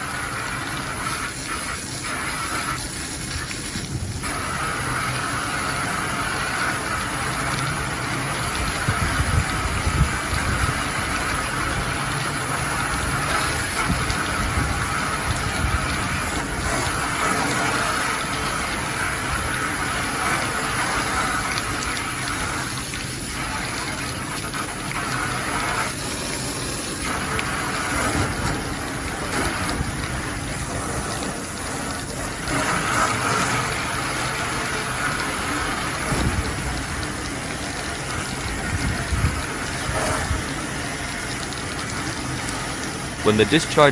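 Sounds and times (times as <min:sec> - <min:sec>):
water jet spraying on metal fins: 0:00.0 - 0:43.9.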